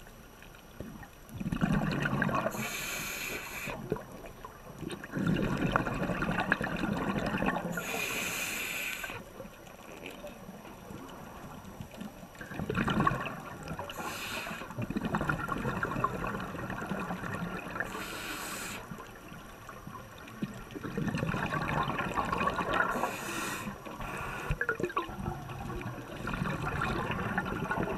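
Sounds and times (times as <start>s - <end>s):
air bubbles gurgling underwater: 0.8s - 2.8s, 3.6s - 8.1s, 9.0s - 18.2s, 18.8s - 27.9s.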